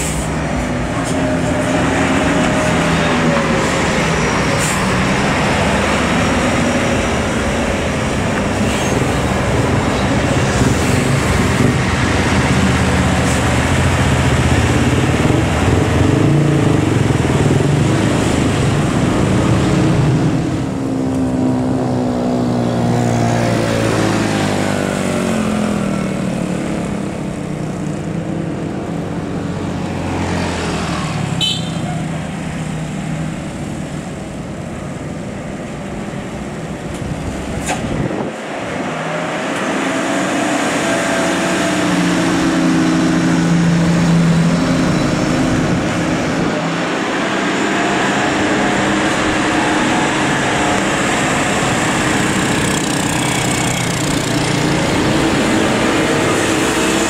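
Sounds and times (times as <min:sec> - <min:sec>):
bus diesel engine passing: 0:00.0 - 0:57.0
road traffic: 0:00.0 - 0:57.0.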